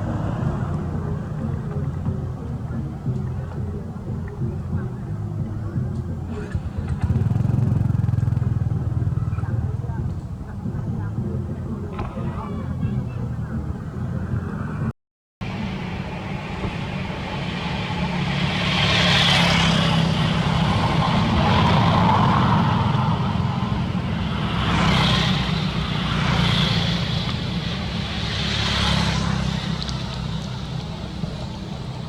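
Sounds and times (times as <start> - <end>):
low engine rumble: 0.0 - 32.0
vehicles passing: 0.0 - 32.0.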